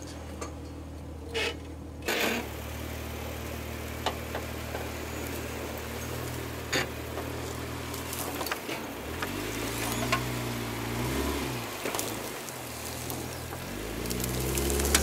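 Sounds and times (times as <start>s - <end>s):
car engine revving: 2.0s - 15.0s.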